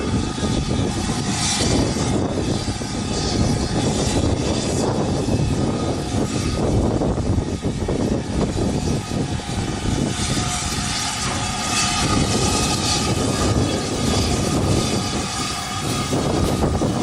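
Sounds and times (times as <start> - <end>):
steam train rumbling by: 0.0 - 17.0.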